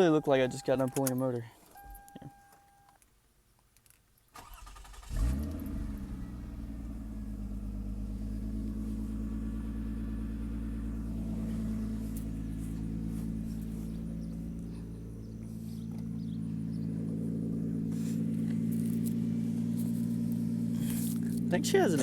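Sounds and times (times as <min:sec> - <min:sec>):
car engine starting and idling: 0:04.4 - 0:22.0.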